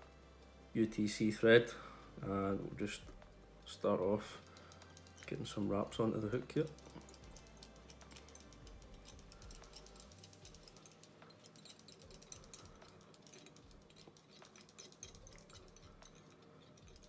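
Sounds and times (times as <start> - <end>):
low steady hum: 0.0 - 17.0
thread winding clicking: 3.0 - 17.0.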